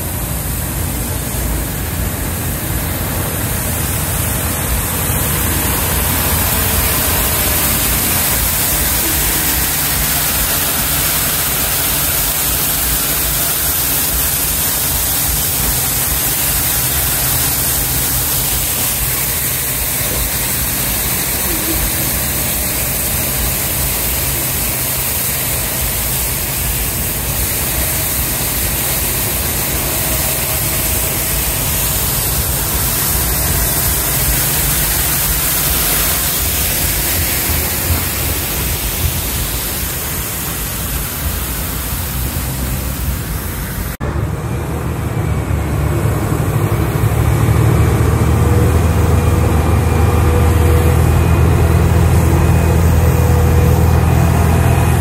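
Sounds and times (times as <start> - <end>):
loud even rushing noise: 0.0 - 55.0
milling machine engine hum: 0.0 - 55.0.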